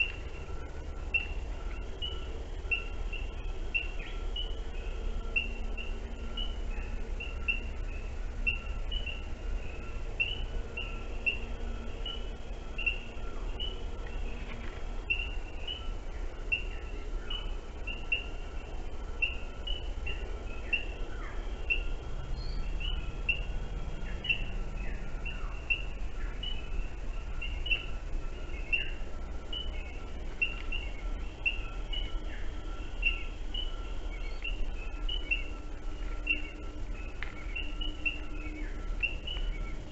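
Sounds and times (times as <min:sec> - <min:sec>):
falling bird calls: 0:00.0 - 0:39.9
microphone hiss and rumble: 0:00.0 - 0:39.9
small birds chirping: 0:00.0 - 0:39.9.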